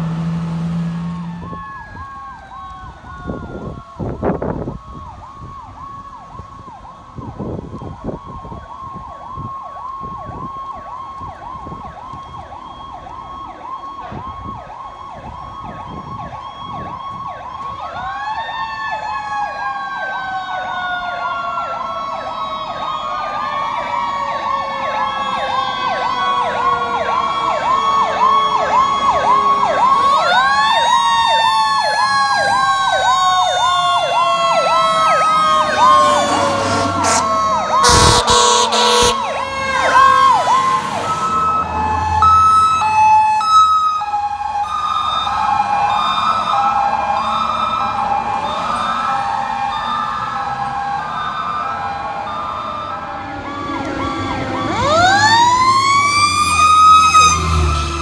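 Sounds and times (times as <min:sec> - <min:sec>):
electronic siren yelp: 0:01.2 - 0:58.0.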